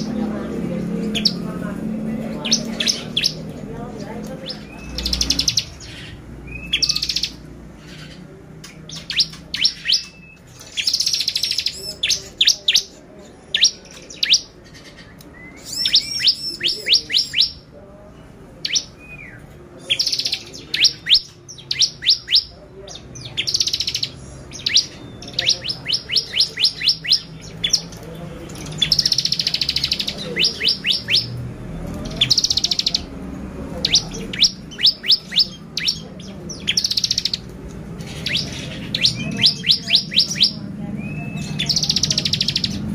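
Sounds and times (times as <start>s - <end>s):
bird singing sharp trills: 0.0s - 1.6s, 2.2s - 17.7s, 18.6s - 42.9s.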